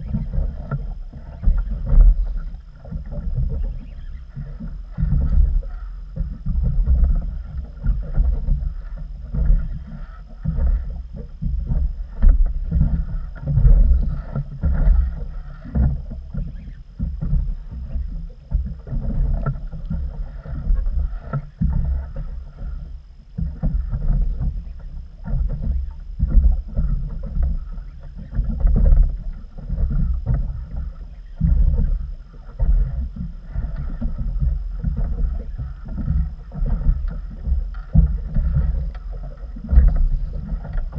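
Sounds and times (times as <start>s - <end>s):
waves slapping boat hull: 0.0s - 40.9s
wind buffeting microphone: 0.0s - 40.9s.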